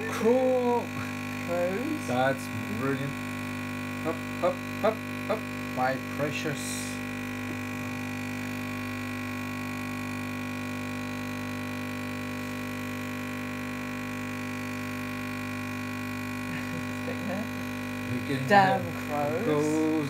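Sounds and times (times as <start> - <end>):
coffee machine pump humming: 0.0 - 20.0.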